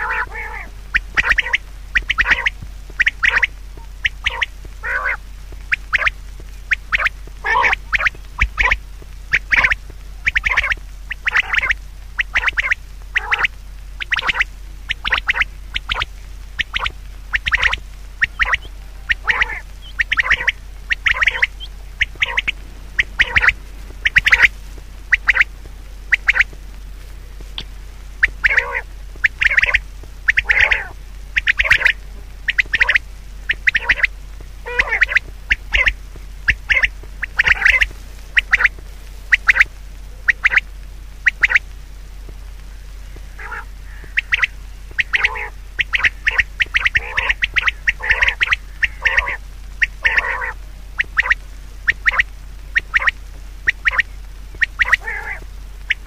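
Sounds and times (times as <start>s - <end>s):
bird harsh calls: 0.0s - 26.5s, 28.2s - 38.7s, 39.3s - 40.6s, 41.2s - 41.7s, 42.7s - 56.0s
steady low hum: 0.0s - 56.0s.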